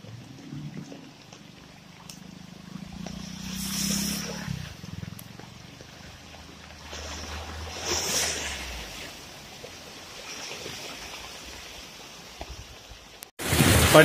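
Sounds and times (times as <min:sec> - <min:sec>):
car splashing through water: 0:00.0 - 0:12.4, 0:13.4 - 0:14.0
floodwater rushing: 0:00.0 - 0:14.0.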